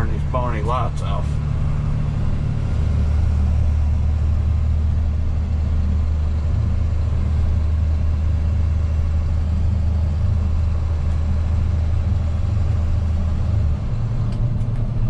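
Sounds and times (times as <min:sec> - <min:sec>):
truck engine and road noise: 0:00.0 - 0:15.0.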